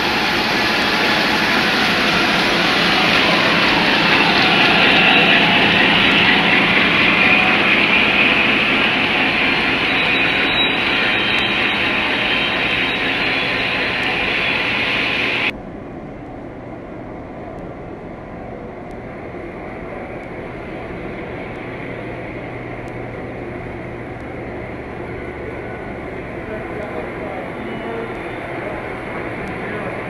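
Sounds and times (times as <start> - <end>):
model trains rolling on track: 0.0 - 15.6, 18.2 - 30.0.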